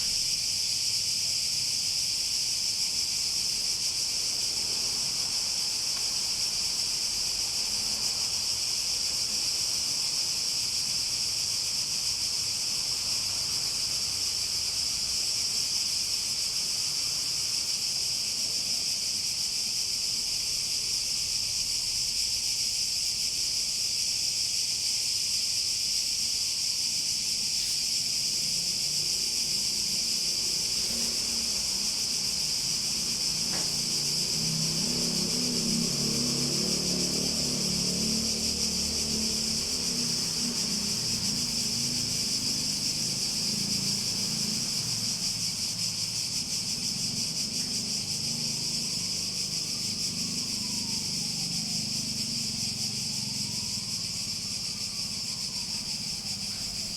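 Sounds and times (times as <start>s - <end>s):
cicadas droning: 0.0s - 56.9s.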